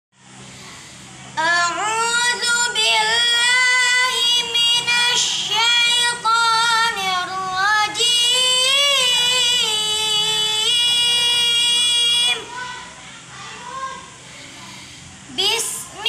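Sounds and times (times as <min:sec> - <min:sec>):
boy chanting: 0:00.6 - 0:16.0.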